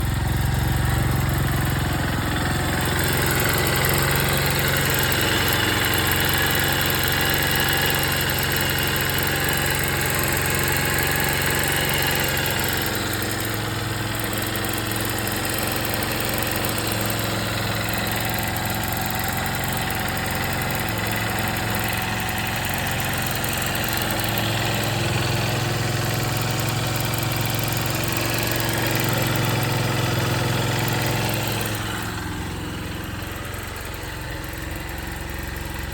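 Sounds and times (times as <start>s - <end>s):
engine rattle or ticking: 0.0s - 35.9s
motorcycle engine idling: 0.0s - 35.9s.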